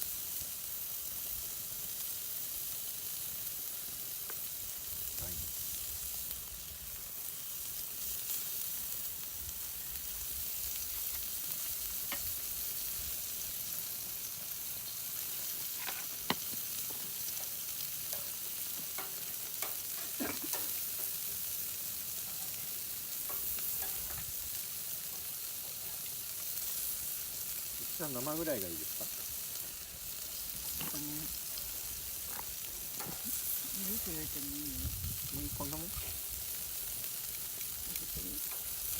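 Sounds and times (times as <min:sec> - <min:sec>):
meat sizzling on a grill: 0:00.0 - 0:38.9.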